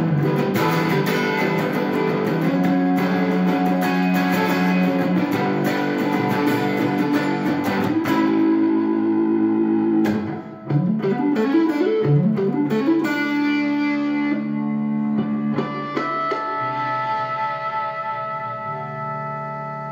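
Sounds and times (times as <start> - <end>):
electric guitar chords: 0.0 - 19.9.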